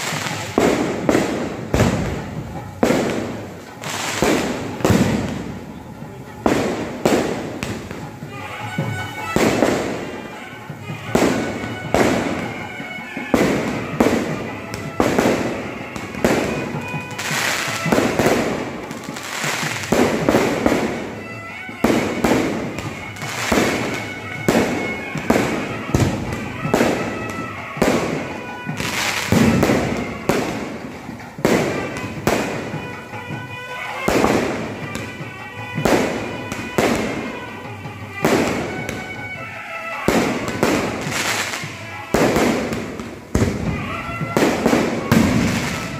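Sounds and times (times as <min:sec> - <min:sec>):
firework shells bursting: 0:00.0 - 0:45.9.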